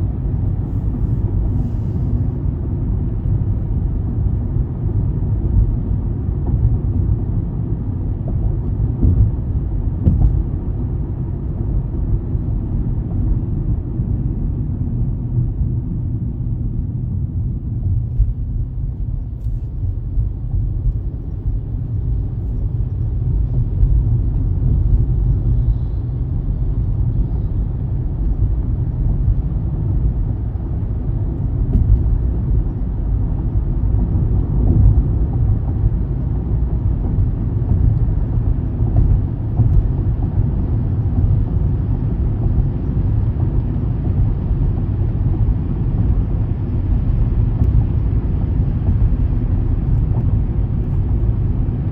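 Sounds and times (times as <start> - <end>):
car driving rumble: 0.0 - 51.9.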